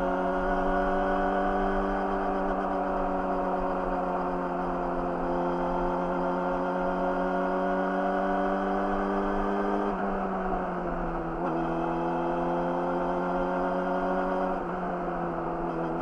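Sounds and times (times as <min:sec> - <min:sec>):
motorcycle engine at cruising revs: 0:00.0 - 0:16.0.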